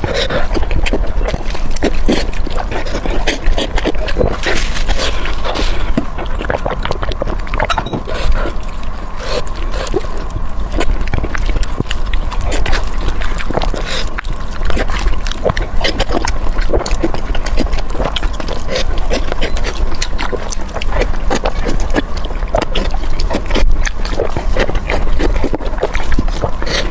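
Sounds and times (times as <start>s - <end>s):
low hum: 0.0s - 26.9s
wet chewing and lip-smacking: 0.0s - 26.9s.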